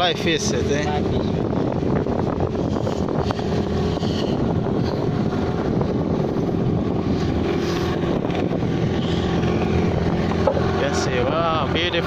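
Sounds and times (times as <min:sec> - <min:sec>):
boat engine droning: 0:00.0 - 0:12.0
wind on microphone: 0:00.0 - 0:12.0.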